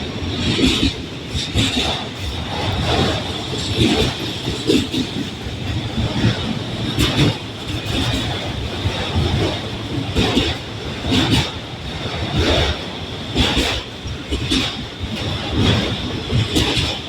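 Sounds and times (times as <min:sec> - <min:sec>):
freight train cars rumbling past: 0:00.0 - 0:17.0
wheels clacking over rail joints: 0:00.0 - 0:17.0.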